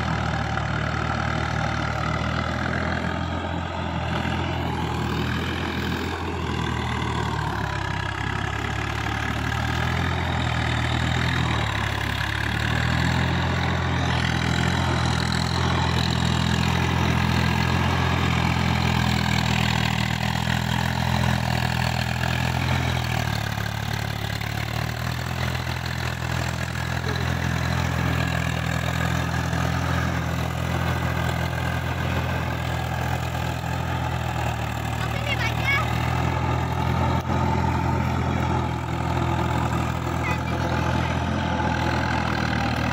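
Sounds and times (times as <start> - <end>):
diesel tractor engine under load: 0.0 - 42.9.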